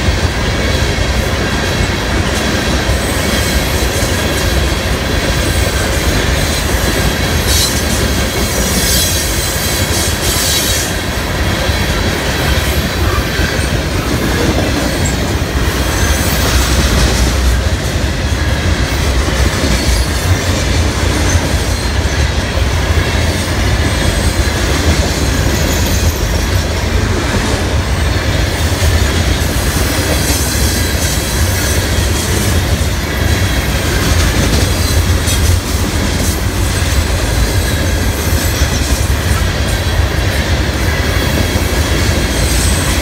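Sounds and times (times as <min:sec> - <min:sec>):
steel wheels rumbling on rails: 0:00.0 - 0:43.0.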